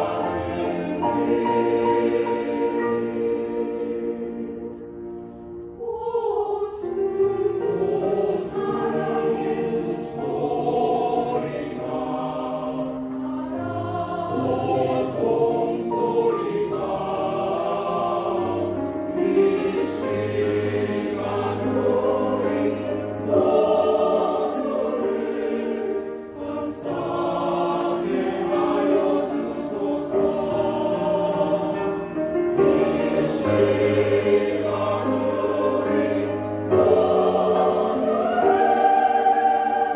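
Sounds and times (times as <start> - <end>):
mixed choir singing in harmony: 0.0 - 39.9
piano accompaniment: 0.0 - 39.9.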